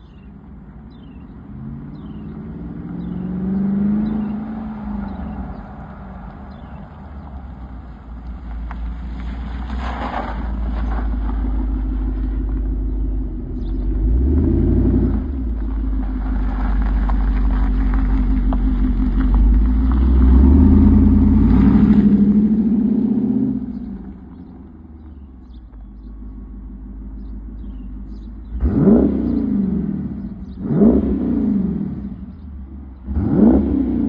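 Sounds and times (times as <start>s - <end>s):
car engine revving: 0.9s - 34.0s.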